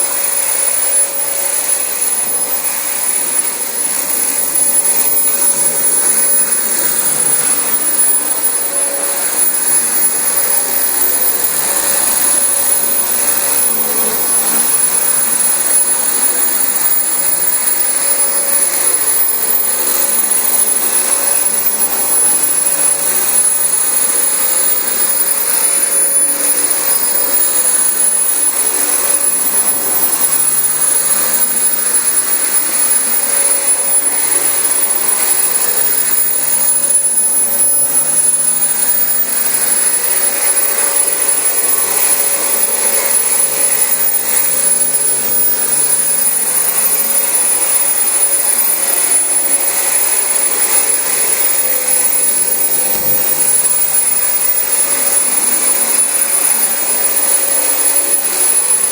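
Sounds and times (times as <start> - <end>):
vacuum cleaner running on carpet: 0.0 - 58.9.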